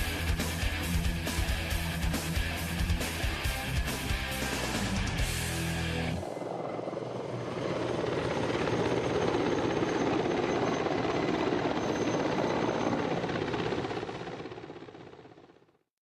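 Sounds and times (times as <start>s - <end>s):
helicopter engines and rotor: 0.0s - 15.8s.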